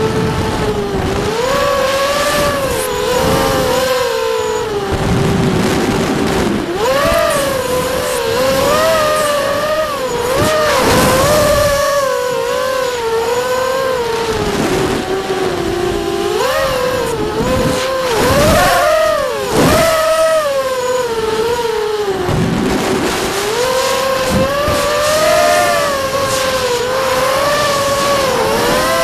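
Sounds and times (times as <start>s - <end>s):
gusts of rushing noise: 0.0s - 12.7s, 14.1s - 29.0s
drone motors whining: 0.0s - 29.0s.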